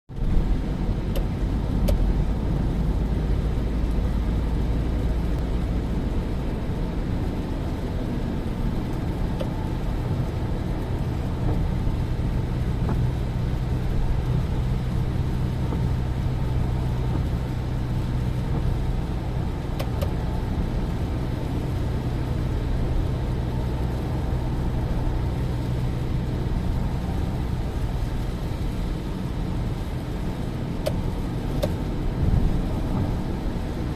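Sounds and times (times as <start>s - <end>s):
car road and engine rumble: 0.1s - 33.9s.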